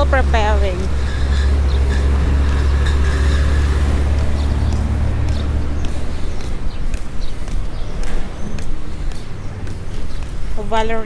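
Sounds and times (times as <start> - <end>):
light street noise: 0.0 - 11.0
vehicle engine rumble: 0.0 - 11.0.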